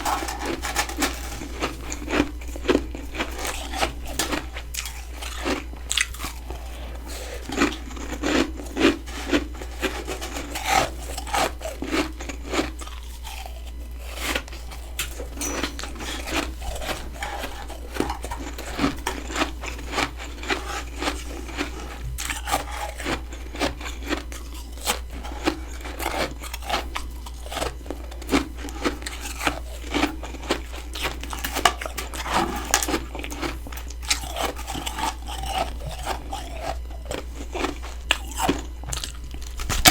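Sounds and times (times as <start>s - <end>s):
crunching frost ice: 0.0s - 39.9s.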